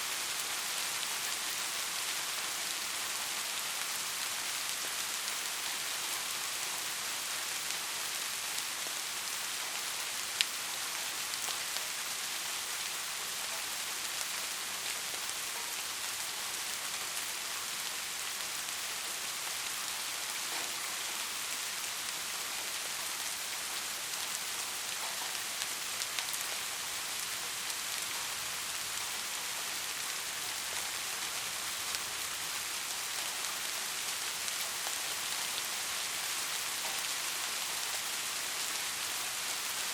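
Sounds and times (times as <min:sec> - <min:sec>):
soft steady rain: 0:00.0 - 0:39.9.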